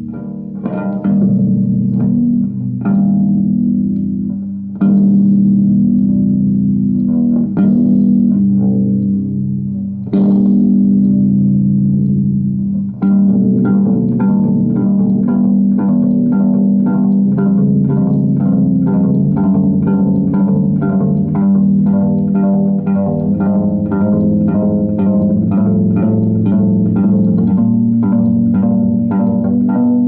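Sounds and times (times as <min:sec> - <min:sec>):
low bass drone: 0:00.0 - 0:30.0
plucked bass notes: 0:00.0 - 0:30.0.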